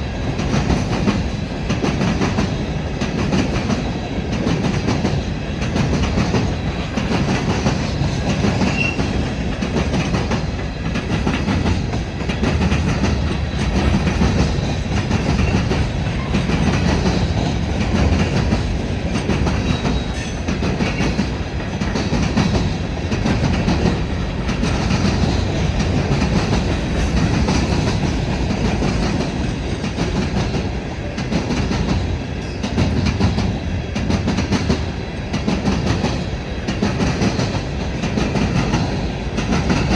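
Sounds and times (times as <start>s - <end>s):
train cars rolling past: 0.0s - 39.9s.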